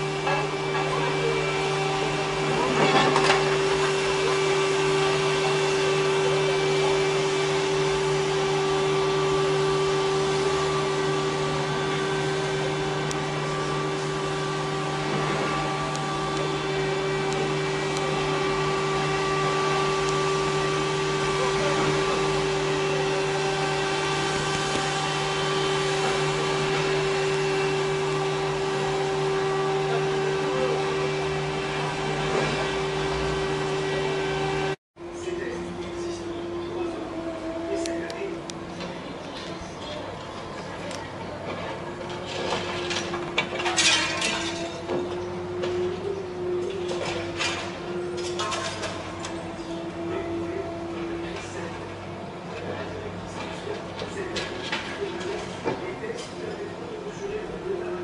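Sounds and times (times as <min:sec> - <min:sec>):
fan motor drone and whine: 0:00.0 - 0:58.0.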